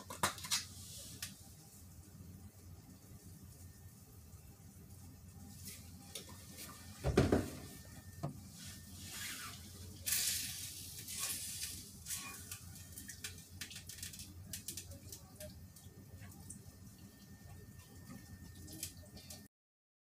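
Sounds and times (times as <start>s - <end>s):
food sizzling: 0.0s - 19.3s.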